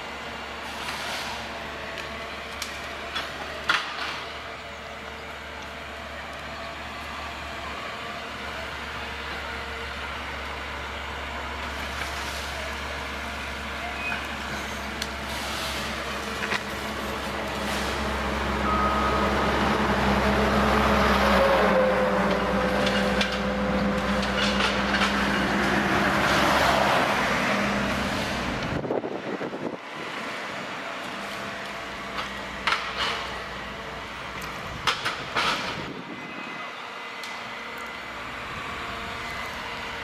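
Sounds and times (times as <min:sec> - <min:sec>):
harvester engine and hydraulics: 0:00.0 - 0:40.0.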